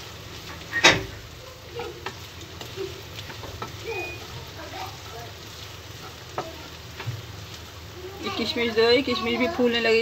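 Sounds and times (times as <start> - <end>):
nuts sizzling in fat: 0.0 - 10.0.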